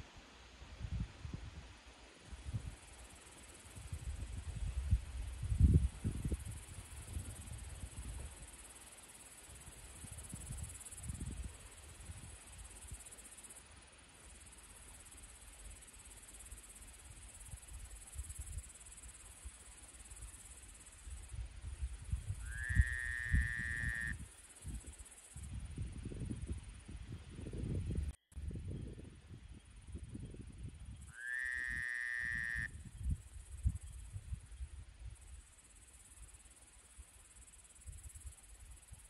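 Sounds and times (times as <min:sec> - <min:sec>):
insects chorus: 0:02.4 - 0:27.6, 0:28.8 - 0:39.0.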